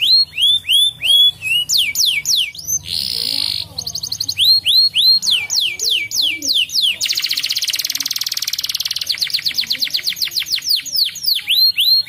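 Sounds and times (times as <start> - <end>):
canary singing: 0.0 - 12.0.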